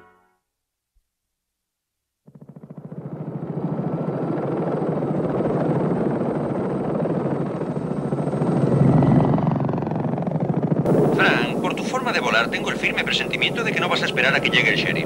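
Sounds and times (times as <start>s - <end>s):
helicopter rotor blades chopping: 2.2s - 15.0s.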